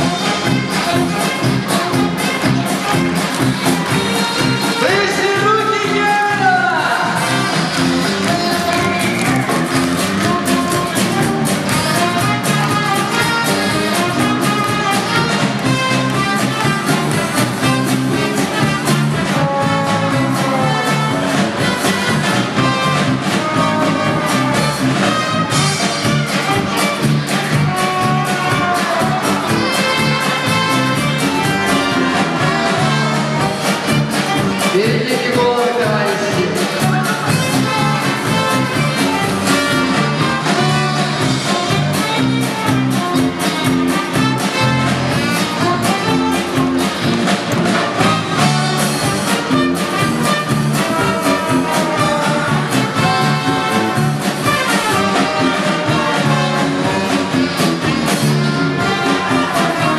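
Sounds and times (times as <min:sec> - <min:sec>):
brass band music with steady beat: 0:00.0 - 0:59.9
trombone: 0:00.0 - 0:59.9
trumpet: 0:00.0 - 0:59.9.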